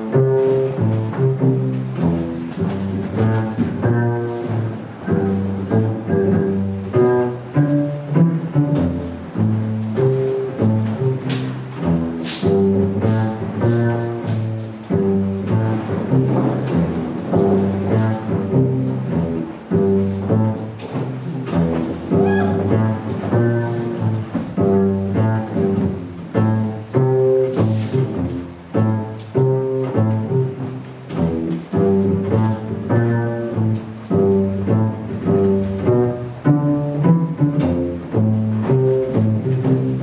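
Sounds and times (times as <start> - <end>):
cello playing rhythmic tune: 0.0 - 40.0.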